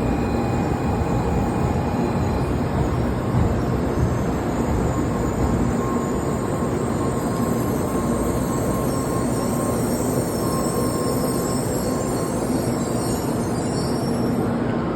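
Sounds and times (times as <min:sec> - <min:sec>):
faint high steady tone: 0:00.0 - 0:14.8
train running rumble: 0:00.0 - 0:14.9.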